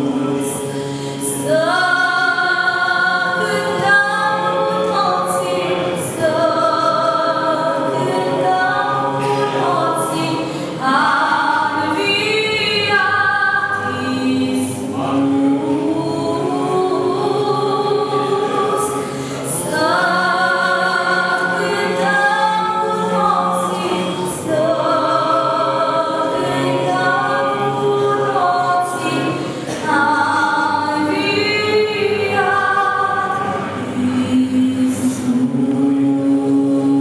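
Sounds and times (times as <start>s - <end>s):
woman singing unaccompanied: 0.0s - 37.0s.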